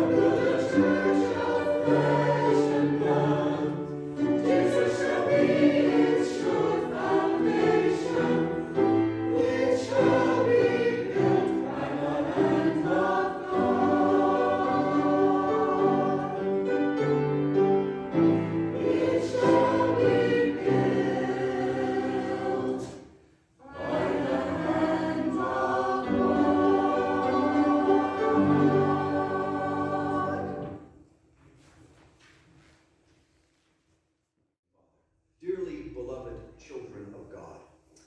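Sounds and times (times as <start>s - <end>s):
church choir singing: 0.0s - 31.0s.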